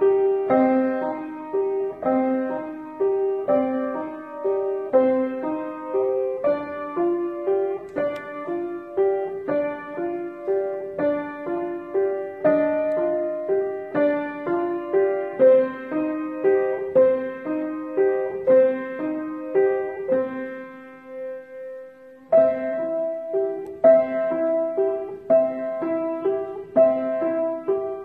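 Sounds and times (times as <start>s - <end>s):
upright piano arpeggios: 0.0s - 28.0s.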